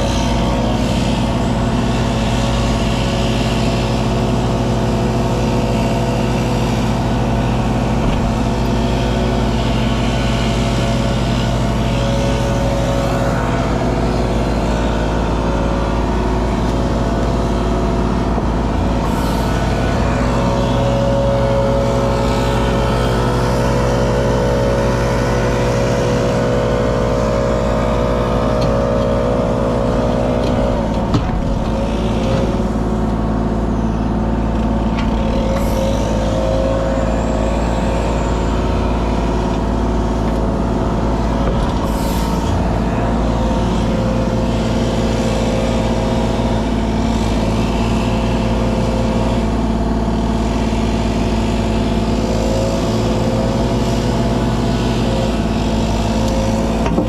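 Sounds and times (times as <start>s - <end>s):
diesel engine running: 0.0s - 57.0s
hydraulic whine: 0.0s - 57.0s.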